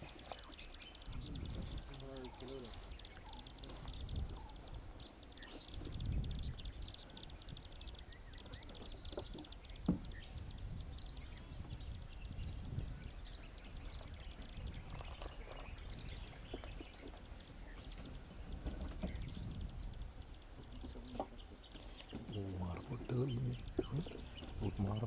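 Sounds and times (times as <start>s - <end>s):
bird chirps: 0.0s - 25.0s.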